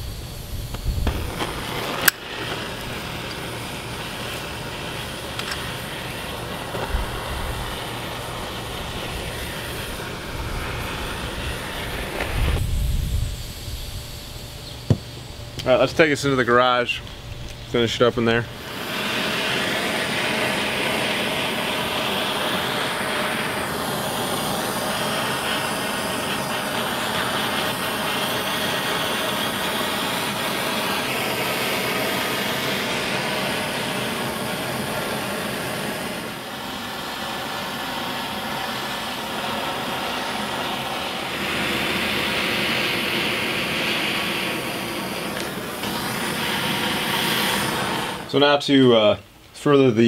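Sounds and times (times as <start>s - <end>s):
propane torch hissing: 0.0s - 50.0s.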